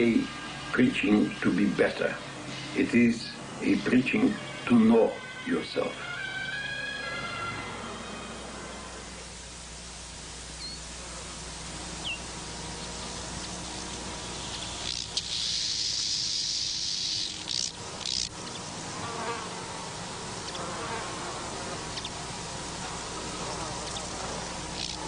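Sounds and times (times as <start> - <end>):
low hum: 0.0 - 25.0
tape hiss: 0.0 - 25.0
insect buzzing: 3.6 - 25.0.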